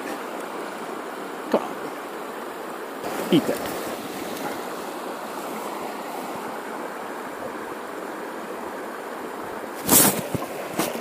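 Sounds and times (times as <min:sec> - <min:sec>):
river water rushing over gravel: 0:00.0 - 0:11.0.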